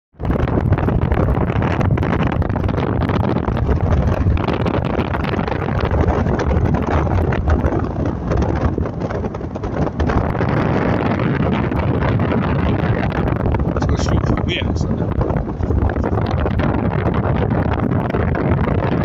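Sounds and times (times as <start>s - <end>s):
wind rumbling on microphone: 0.1s - 19.0s
car moving slowly: 0.4s - 18.8s.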